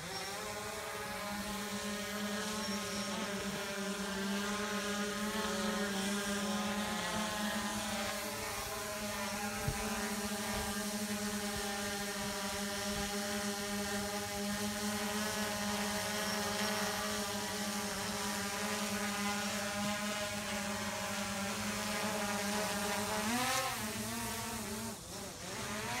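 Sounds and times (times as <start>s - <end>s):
drone propellers buzzing: 0.0s - 26.0s.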